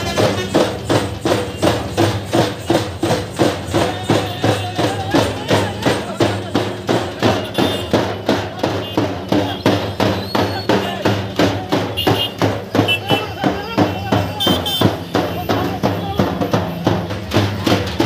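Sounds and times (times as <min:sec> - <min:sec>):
crowd voices: 0:00.0 - 0:18.0
frame drums beaten with sticks: 0:00.0 - 0:18.0.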